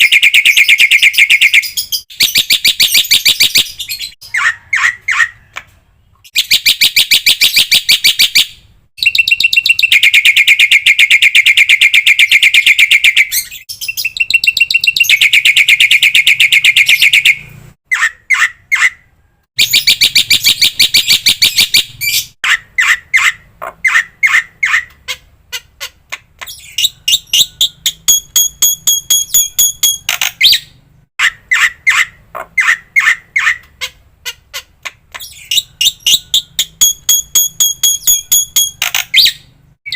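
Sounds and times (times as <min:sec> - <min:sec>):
bird sharp chirps: 0:00.0 - 0:24.9, 0:26.4 - 0:34.0, 0:35.2 - 0:39.9.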